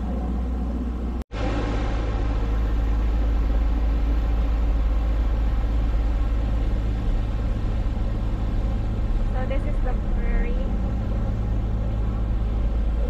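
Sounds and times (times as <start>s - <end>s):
ferry engines droning: 0.0s - 13.0s
hiss of wind and water: 0.0s - 13.0s.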